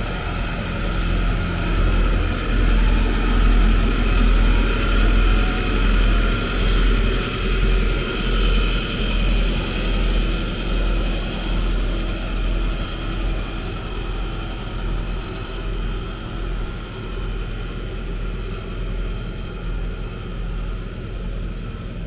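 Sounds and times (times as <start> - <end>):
engine running with whine: 0.0 - 22.0.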